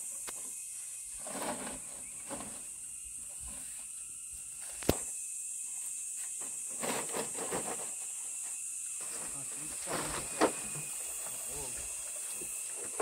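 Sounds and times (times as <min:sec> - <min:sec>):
rustling and scraping: 0:00.0 - 0:05.1, 0:05.7 - 0:13.0
steady high-pitched hiss: 0:00.0 - 0:13.0.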